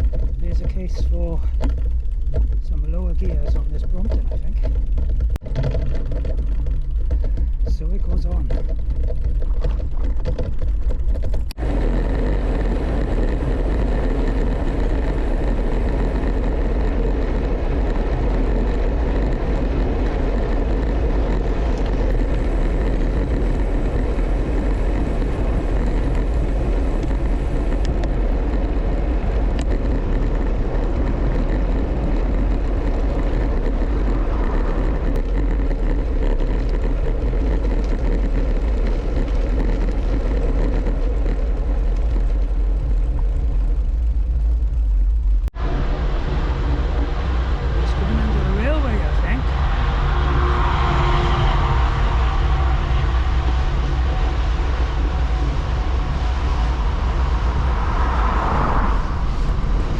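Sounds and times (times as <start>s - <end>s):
road noise: 0.0s - 59.9s
wind rushing over microphone: 0.0s - 59.9s.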